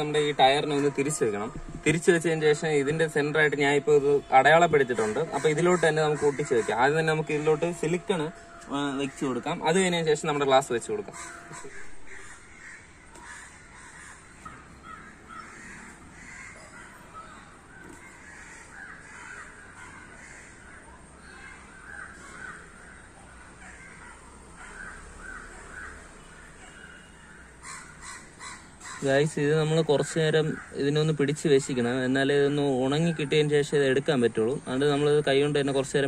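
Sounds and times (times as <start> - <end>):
birds cawing: 0.0 - 36.0.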